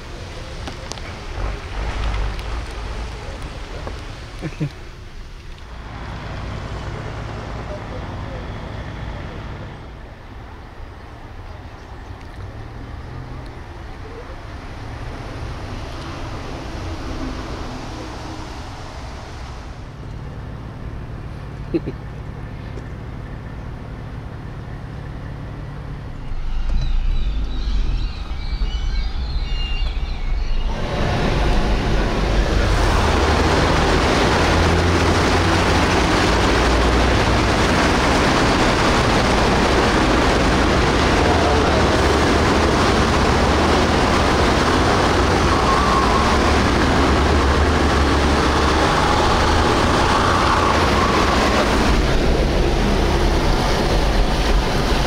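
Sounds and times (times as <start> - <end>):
car driving through floodwater: 0.0 - 55.0
low vehicle rumble: 0.0 - 55.0.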